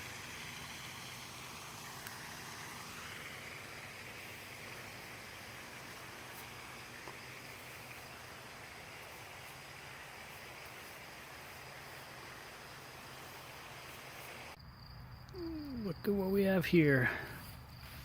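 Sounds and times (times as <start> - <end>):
even hiss: 0.0 - 14.6.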